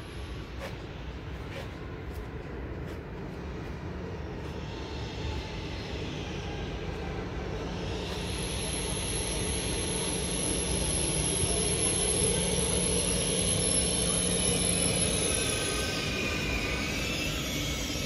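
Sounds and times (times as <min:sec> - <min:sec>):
electric train rumble and whir: 0:00.0 - 0:18.0
thin high whine: 0:03.5 - 0:18.0.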